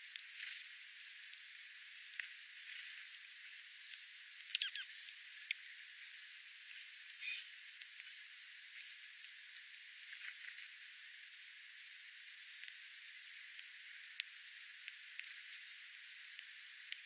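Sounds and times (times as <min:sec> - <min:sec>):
faint hiss: 0:00.0 - 0:17.0
small birds chirping: 0:03.0 - 0:17.0.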